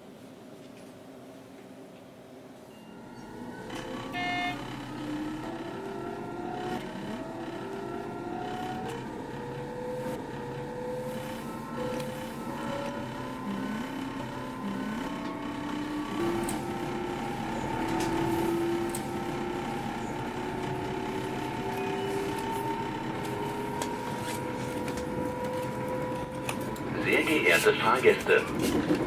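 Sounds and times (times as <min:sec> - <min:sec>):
train motors whining: 0:02.7 - 0:29.0
wheels rumbling on track: 0:02.7 - 0:29.0.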